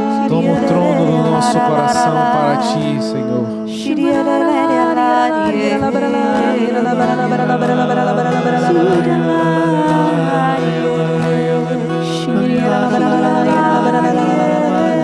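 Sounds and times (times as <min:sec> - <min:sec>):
sustained accompaniment: 0:00.0 - 0:15.0
voices singing slow worship song: 0:00.0 - 0:15.0.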